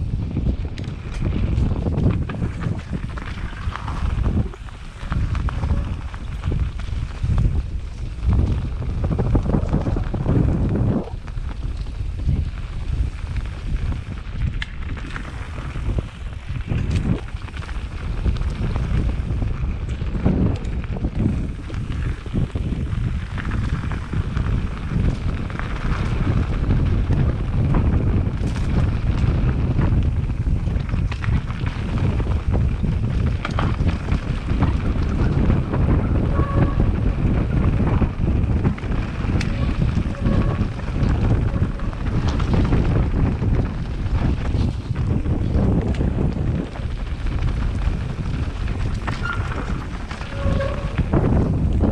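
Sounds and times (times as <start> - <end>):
mountain bike rumble and rattle: 0.0 - 51.9
wind buffeting microphone: 0.0 - 51.9.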